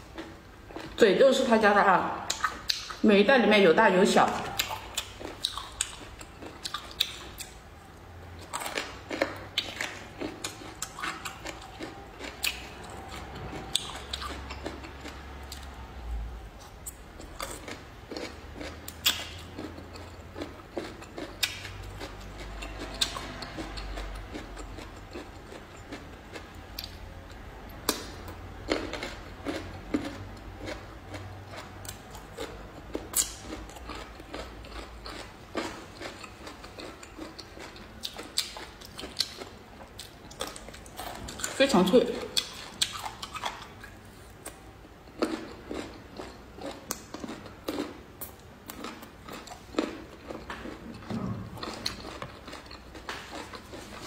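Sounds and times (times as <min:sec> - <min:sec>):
crunchy food being chewed: 0:04.3 - 0:15.9, 0:16.6 - 0:54.0.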